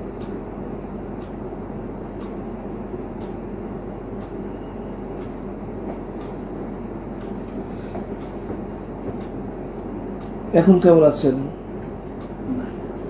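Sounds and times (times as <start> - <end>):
low rumbling room noise: 0.0 - 13.0
mains hum: 0.0 - 13.0.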